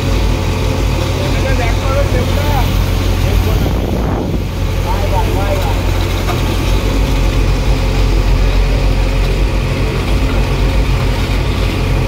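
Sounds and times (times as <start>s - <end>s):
diesel engine running in cab: 0.0s - 12.0s.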